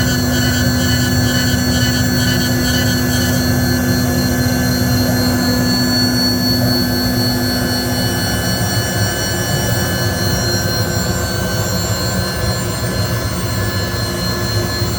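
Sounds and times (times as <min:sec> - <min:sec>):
machine spindle whirring: 0:00.0 - 0:14.9.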